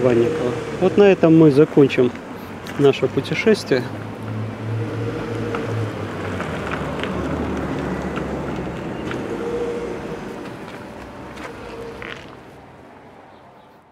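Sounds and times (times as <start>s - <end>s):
vehicle engine running close: 0.0s - 12.5s
city traffic hum: 0.0s - 13.9s.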